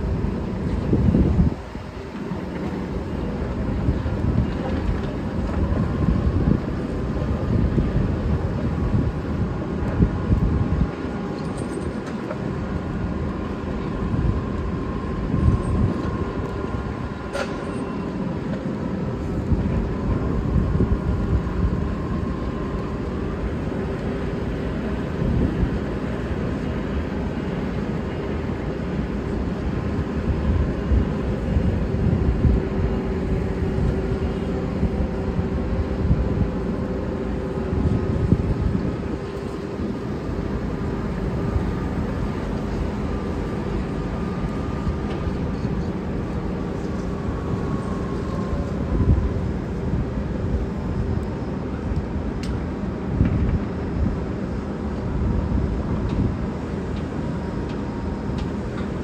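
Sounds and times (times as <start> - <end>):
heavy machinery diesel rumble: 0.0 - 59.0.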